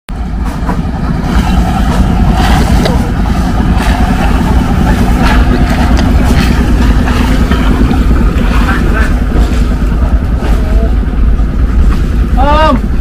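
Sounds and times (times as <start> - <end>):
boat engine rumbling: 0.1 - 13.0.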